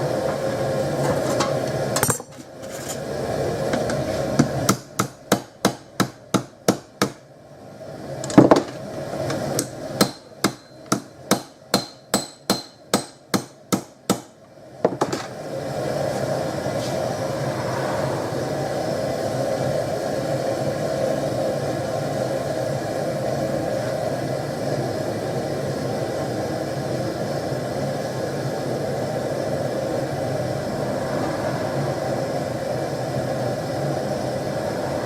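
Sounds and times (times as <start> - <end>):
gas forge burner rushing: 0.0 - 5.7, 7.5 - 11.4, 14.6 - 35.0.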